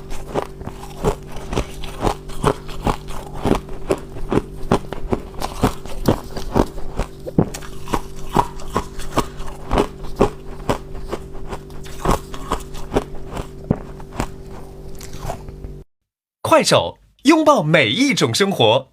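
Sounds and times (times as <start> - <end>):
person chewing crunchy ice: 0.0 - 15.7
steady low hum: 0.0 - 15.9.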